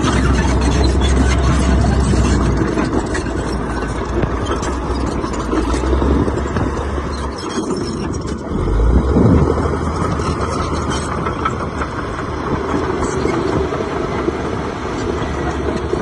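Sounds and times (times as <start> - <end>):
heavy machinery engine running: 0.0 - 16.0.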